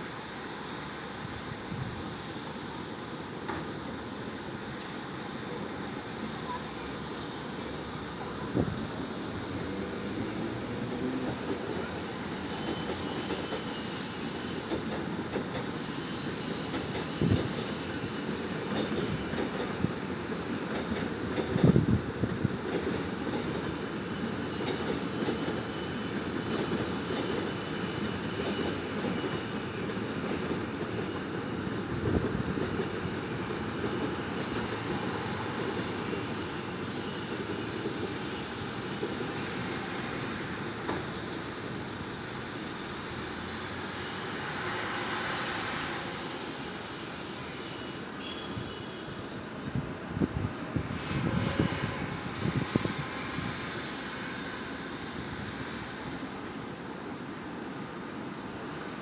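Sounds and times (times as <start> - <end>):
train rumbling in motion: 0.0 - 59.0.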